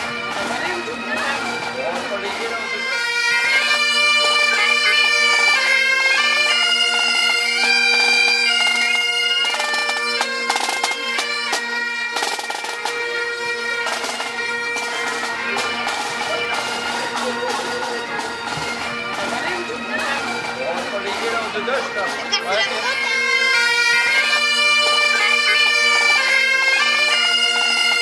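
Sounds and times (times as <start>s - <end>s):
bagpipe drone: 0.0s - 28.0s
bagpipes playing a tune: 0.0s - 28.0s.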